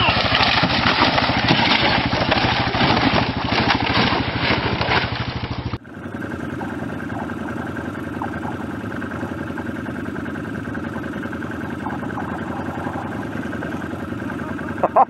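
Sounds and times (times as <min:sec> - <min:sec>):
loud rough quad engine: 0:00.0 - 0:15.0
quieter quad engine running: 0:00.0 - 0:15.0.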